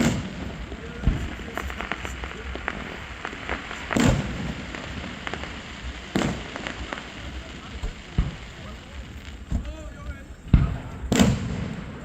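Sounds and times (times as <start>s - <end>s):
firework bangs: 0.0s - 12.0s
firework pops and crackles: 0.0s - 12.0s.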